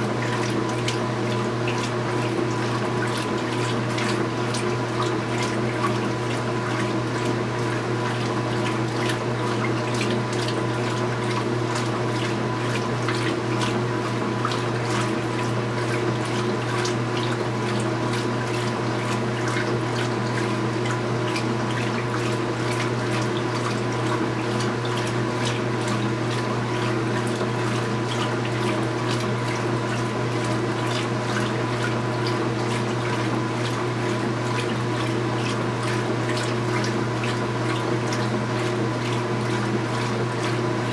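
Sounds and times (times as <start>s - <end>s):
washing machine hum: 0.0s - 40.9s
water splashing in washing machine: 0.0s - 40.9s.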